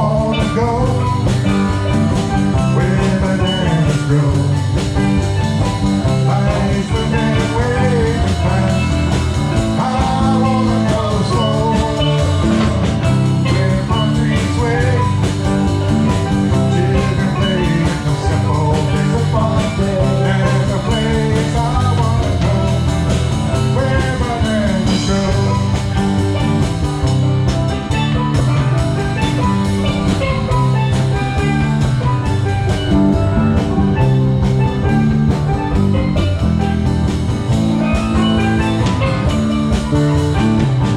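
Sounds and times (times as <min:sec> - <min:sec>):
bass guitar: 0:00.0 - 0:40.9
drum kit: 0:00.0 - 0:40.9
electric guitar: 0:00.0 - 0:40.9
steel drums: 0:00.0 - 0:40.9.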